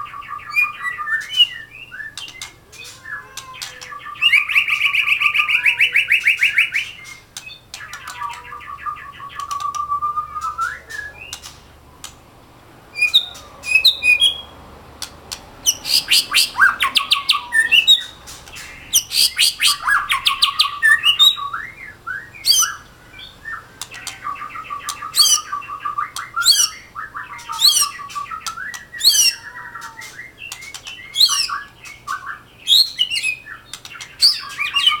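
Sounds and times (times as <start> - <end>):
bird singing whistles and trills: 0.0 - 11.5, 13.0 - 14.5, 15.6 - 35.0.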